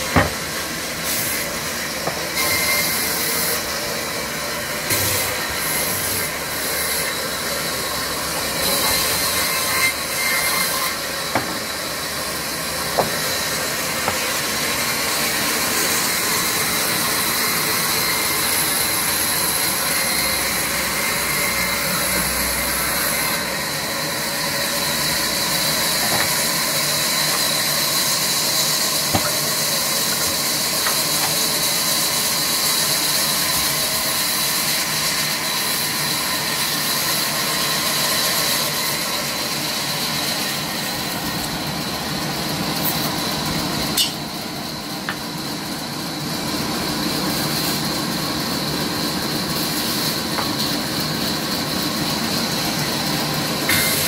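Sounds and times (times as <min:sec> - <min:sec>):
band saw running: 0:00.0 - 0:54.0.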